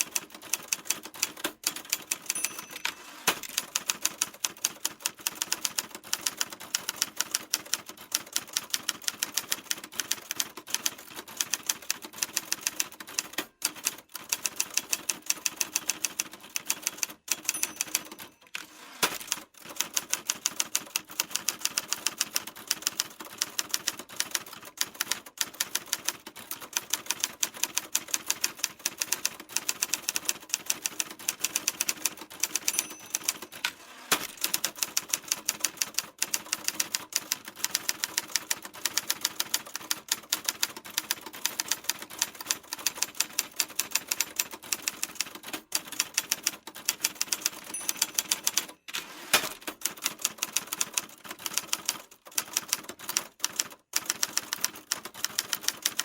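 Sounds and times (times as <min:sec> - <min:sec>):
typewriter keys clacking: 0:00.0 - 0:56.0.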